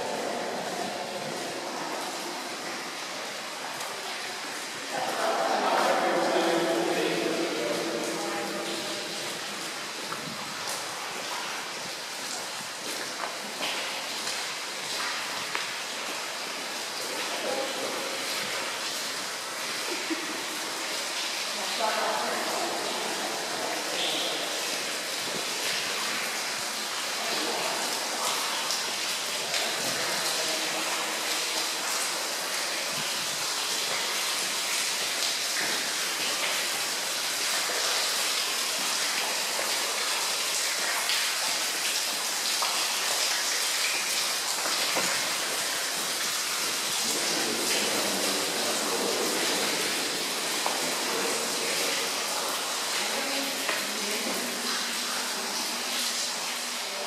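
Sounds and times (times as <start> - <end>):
water falling and dripping: 0.0 - 57.0.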